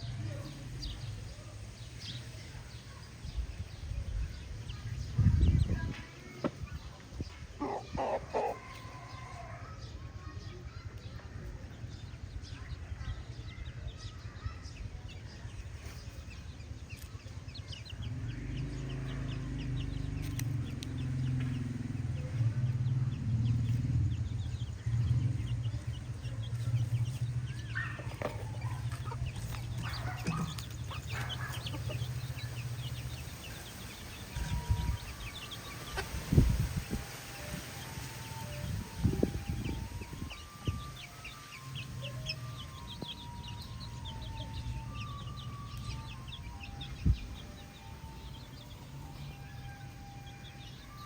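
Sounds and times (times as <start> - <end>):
chickens clucking and peeping: 0.0 - 51.0.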